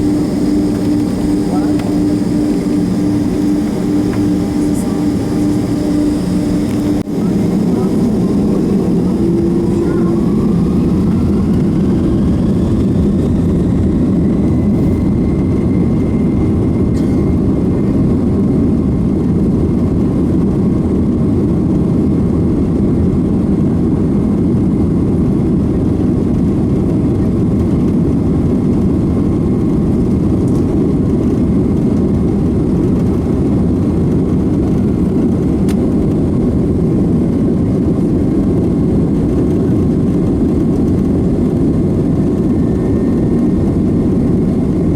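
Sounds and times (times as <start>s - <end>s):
jet engines whining and rumbling: 0.0s - 44.9s.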